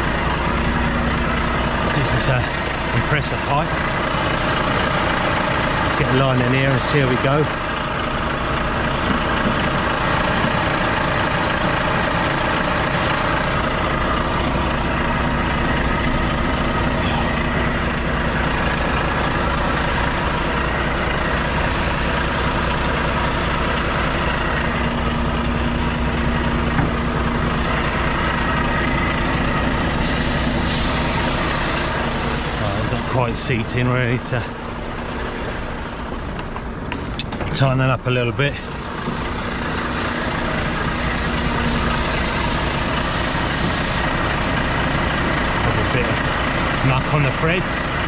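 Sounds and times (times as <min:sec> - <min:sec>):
lorry diesel engine idling: 0:00.0 - 0:48.0.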